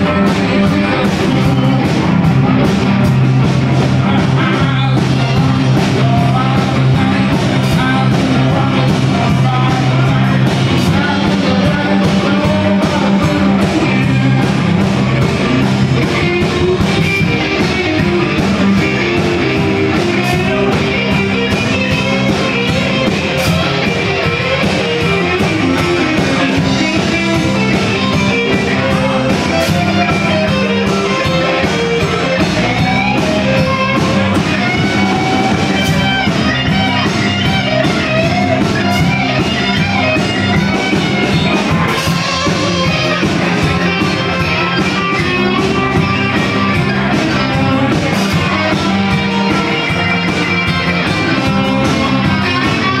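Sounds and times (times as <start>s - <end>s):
drums and cymbals: 0.0s - 53.0s
electric guitars: 0.0s - 53.0s.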